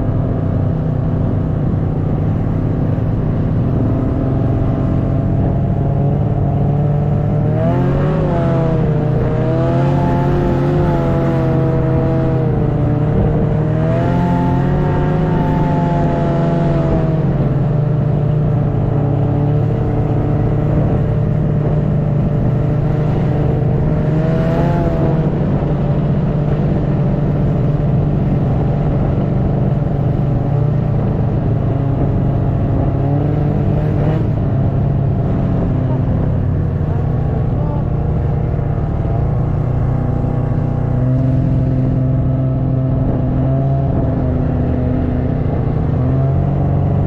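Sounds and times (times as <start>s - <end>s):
snowmobile engine running: 0.0s - 47.0s.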